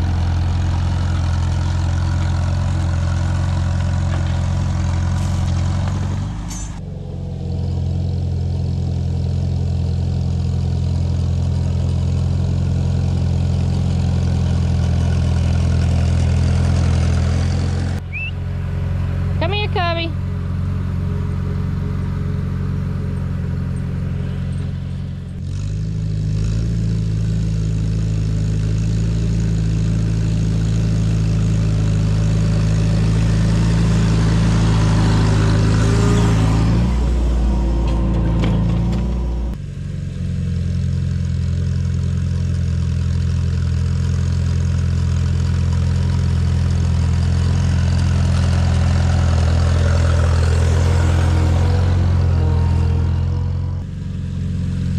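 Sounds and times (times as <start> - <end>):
tractor engine under load: 0.0 - 39.6, 40.7 - 54.9.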